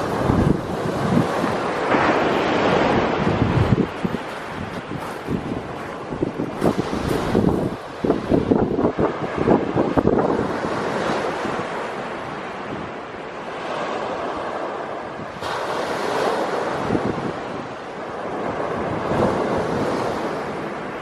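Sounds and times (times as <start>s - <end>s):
small waves breaking on beach: 0.0s - 21.0s
wind buffeting microphone: 0.0s - 21.0s.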